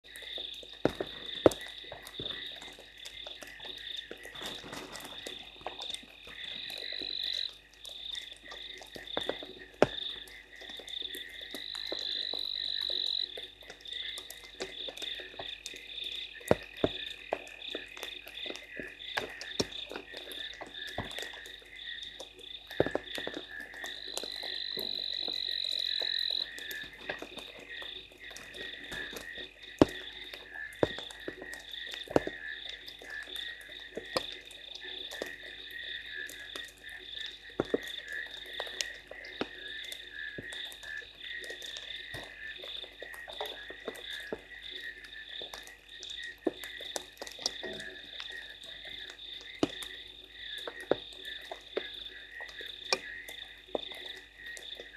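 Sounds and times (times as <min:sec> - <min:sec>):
frogs calling: 0:00.0 - 0:54.9
raindrops ticking: 0:00.0 - 0:54.9.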